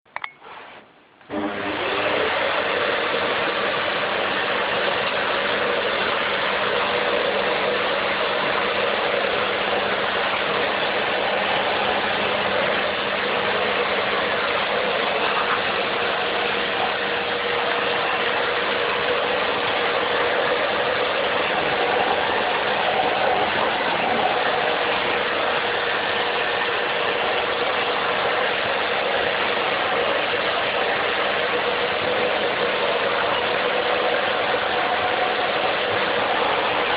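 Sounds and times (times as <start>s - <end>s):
vacuum cleaner running: 0.4s - 36.9s.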